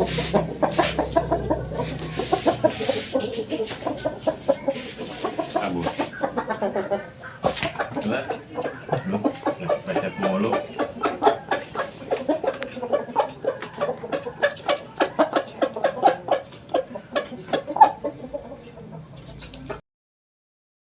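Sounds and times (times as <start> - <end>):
chickens clucking: 0.0 - 19.8.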